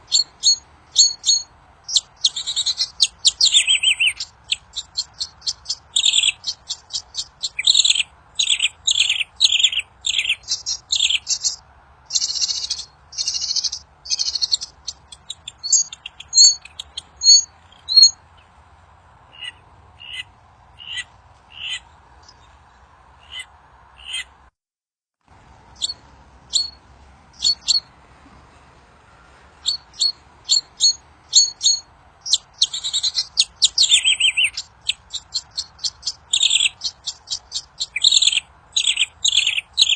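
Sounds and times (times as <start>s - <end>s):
bird chirping and trilling: 0.0s - 18.5s, 19.3s - 22.6s, 23.2s - 24.3s, 25.7s - 27.9s, 29.6s - 39.9s.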